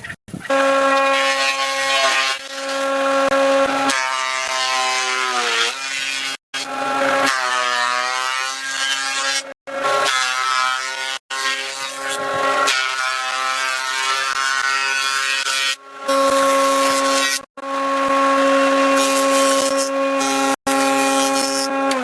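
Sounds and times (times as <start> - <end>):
power tool motor cutting wood: 0.5 - 22.0.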